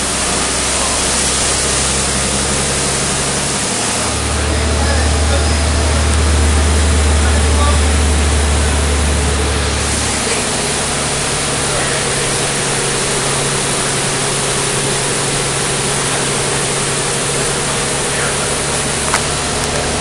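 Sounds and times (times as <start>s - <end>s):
deep bus engine drone: 0.0s - 20.0s
floodwater rushing and splashing: 0.0s - 20.0s.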